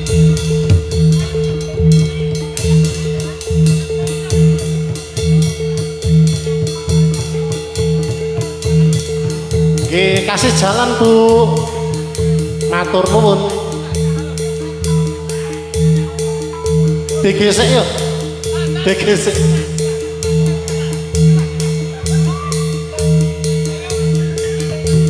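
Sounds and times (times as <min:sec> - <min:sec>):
drums and percussion beat: 0:00.0 - 0:25.0
held drone tone: 0:00.0 - 0:25.0.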